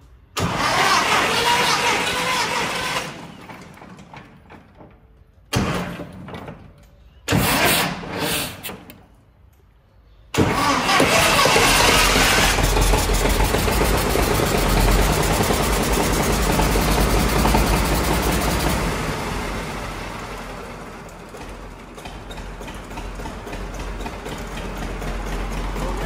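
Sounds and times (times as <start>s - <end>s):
tractor engine starting: 0.1s - 9.1s, 10.3s - 26.0s.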